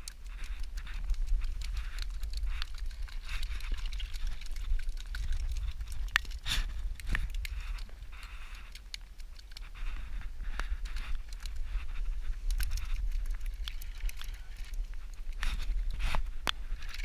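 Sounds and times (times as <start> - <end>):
fish flapping on wet concrete: 0.0 - 17.0
wind rumbling on microphone: 0.0 - 17.0.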